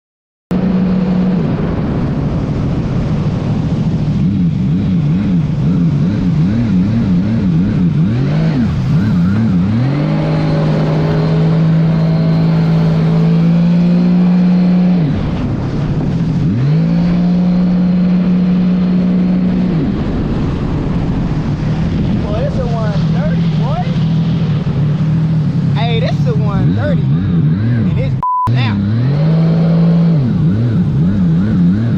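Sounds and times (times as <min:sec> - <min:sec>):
personal watercraft engine revving: 0:00.5 - 0:31.9.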